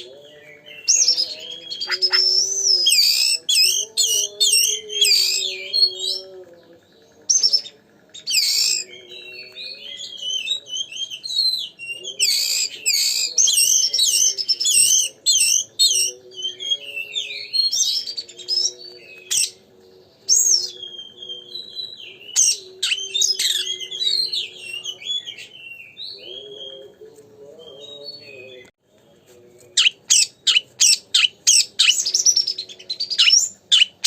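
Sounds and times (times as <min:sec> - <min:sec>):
magpie-robin singing: 0:00.0 - 0:28.7, 0:29.7 - 0:34.0.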